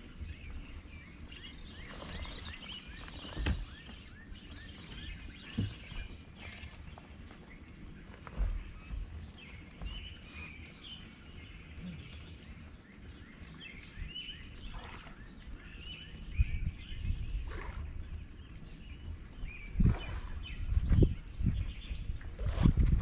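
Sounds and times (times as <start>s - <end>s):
songbirds chirping and whistling: 0.0s - 23.0s.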